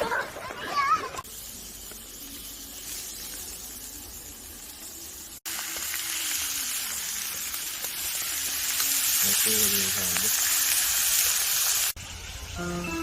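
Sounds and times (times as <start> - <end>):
food sizzling in a hot pan: 1.2 - 13.0.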